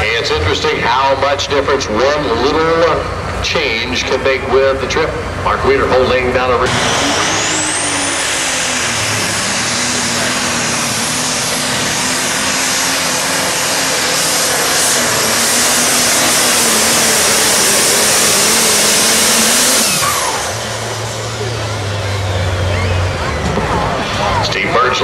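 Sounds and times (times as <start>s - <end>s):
diesel tractor engine roaring: 0.0s - 25.0s
turbocharger whine: 0.0s - 25.0s.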